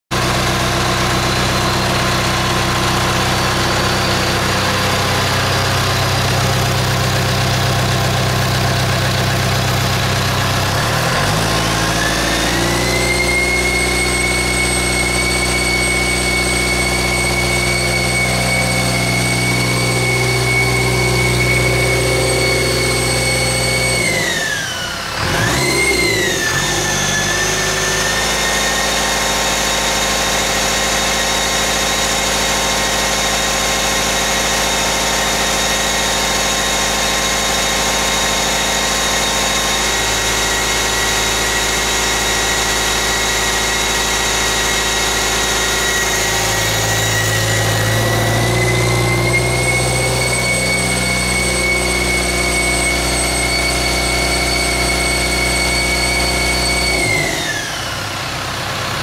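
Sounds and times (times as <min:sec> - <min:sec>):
diesel engine running: 0:00.1 - 0:59.0
turbo whine: 0:00.2 - 0:59.0.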